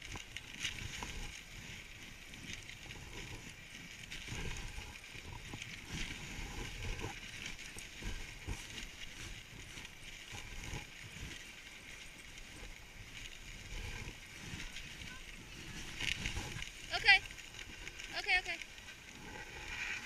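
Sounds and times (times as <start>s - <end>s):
sled runners hissing over snow: 0.0s - 20.0s.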